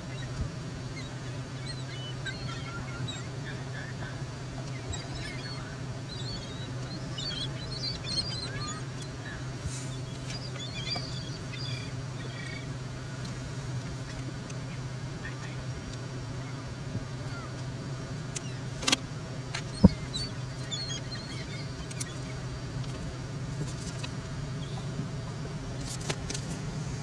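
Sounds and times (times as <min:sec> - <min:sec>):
birds chirping: 0:00.0 - 0:27.0
steady low hum: 0:00.0 - 0:27.0.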